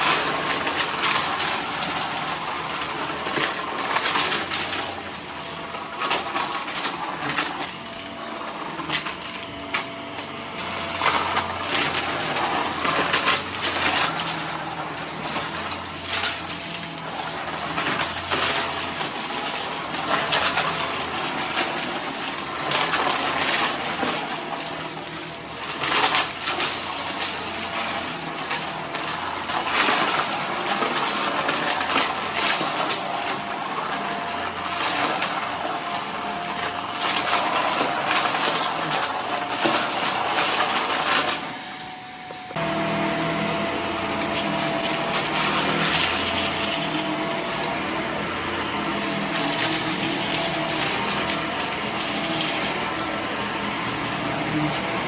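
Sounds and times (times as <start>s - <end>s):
debris clattering through vacuum: 0.0s - 55.0s
vacuum cleaner motor whine: 0.0s - 55.0s.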